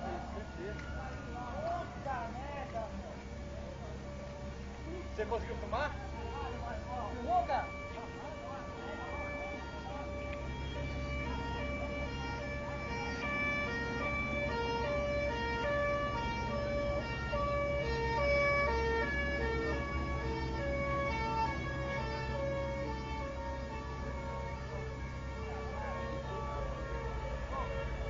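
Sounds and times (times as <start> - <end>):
low engine rumble: 0.0 - 28.0
two-tone siren: 0.0 - 28.0.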